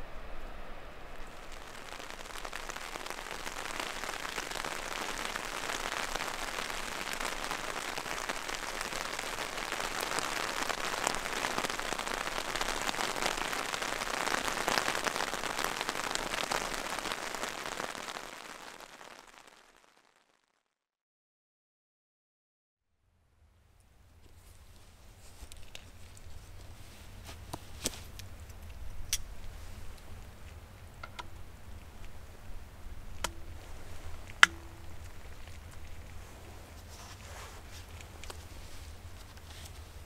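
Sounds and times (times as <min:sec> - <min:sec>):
rain pattering: 0:00.0 - 0:20.5, 0:24.6 - 0:40.0.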